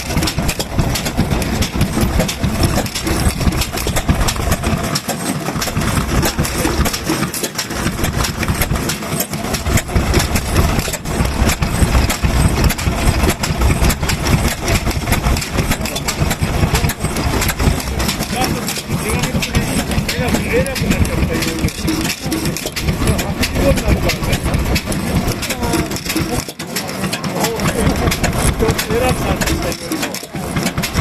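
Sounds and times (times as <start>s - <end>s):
stationary engines running: 0.0s - 31.0s.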